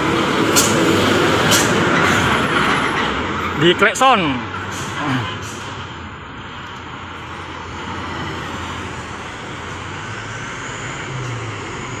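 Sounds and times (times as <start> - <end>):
road traffic drone: 0.0 - 12.0
truck engine hum: 0.0 - 12.0.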